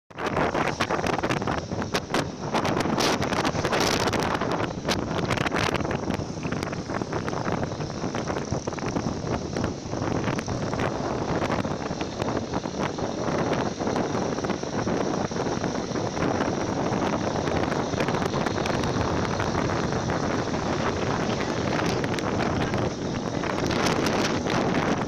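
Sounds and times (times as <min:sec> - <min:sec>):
motorcycle ride noise: 0:00.1 - 0:25.0
wind rushing over microphone: 0:00.1 - 0:25.0.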